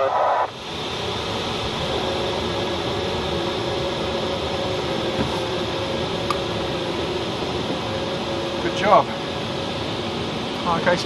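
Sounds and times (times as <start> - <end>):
rush of air over glider: 0.0 - 11.0.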